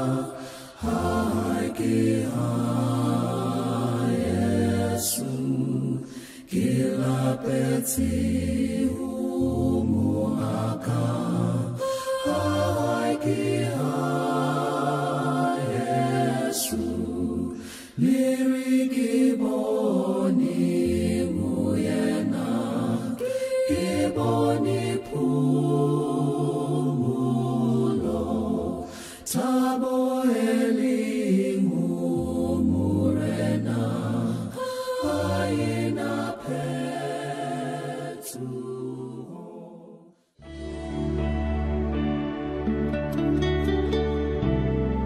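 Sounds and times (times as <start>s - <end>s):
group singing in harmony: 0.0s - 42.7s.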